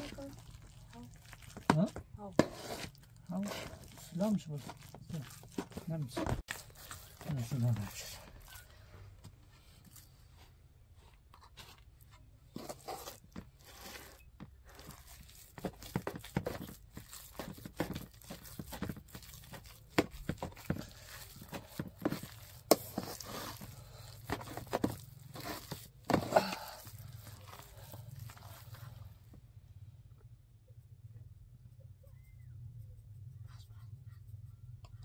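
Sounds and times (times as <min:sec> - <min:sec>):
wet mixture squelching: 0:00.0 - 0:29.3.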